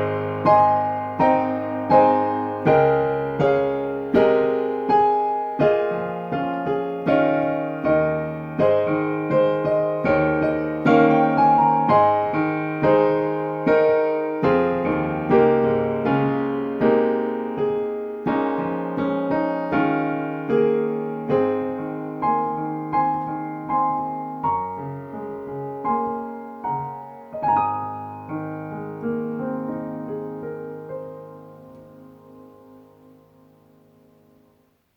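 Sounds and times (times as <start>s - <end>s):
slow piano chords: 0.0s - 34.9s.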